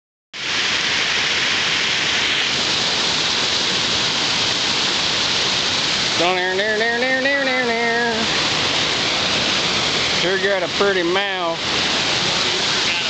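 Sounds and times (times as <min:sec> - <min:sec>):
river water rushing over rocks: 0:00.4 - 0:13.0.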